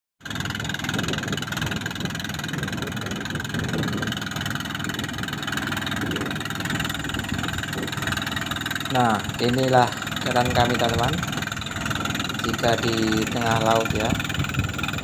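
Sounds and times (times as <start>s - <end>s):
boat engine idling: 0.2s - 15.0s.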